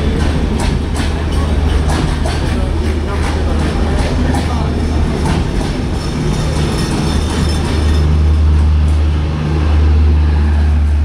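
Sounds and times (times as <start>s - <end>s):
train wheels clacking: 0.0s - 9.3s
train coaches rumbling past: 0.0s - 11.0s.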